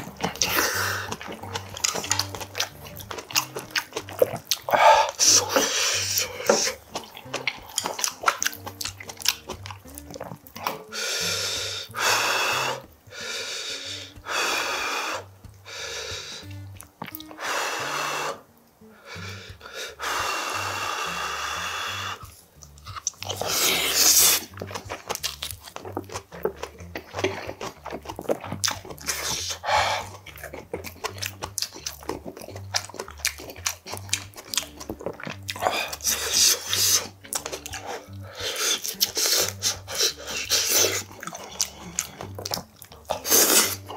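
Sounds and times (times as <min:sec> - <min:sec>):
wet eating clicks: 0:00.0 - 0:10.9, 0:14.0 - 0:17.5, 0:22.2 - 0:43.9
background music: 0:00.0 - 0:43.9
close chewing: 0:00.0 - 0:43.9.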